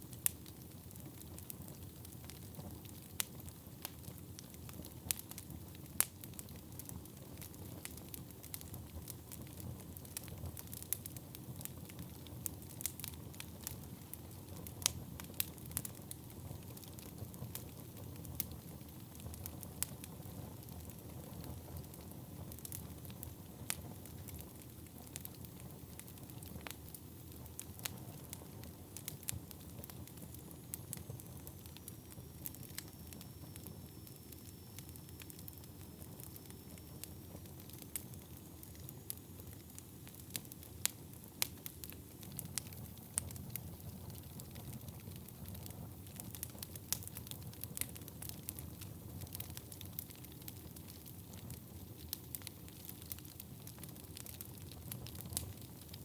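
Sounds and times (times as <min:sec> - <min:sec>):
low rumble of flames: 0:00.0 - 0:56.0
wood crackling and popping: 0:00.1 - 0:56.0.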